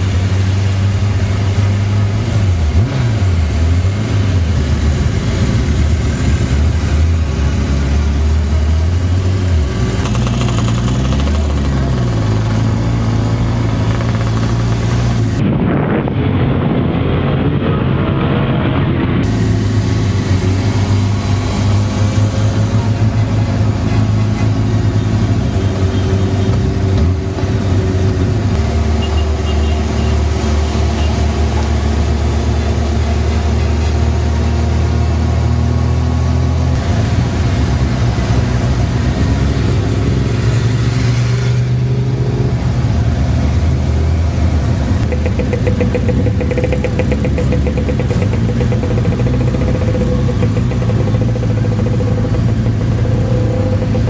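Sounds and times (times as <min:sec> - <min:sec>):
motorcycle engines running: 0:00.0 - 0:54.0
road and wind noise: 0:00.0 - 0:54.0.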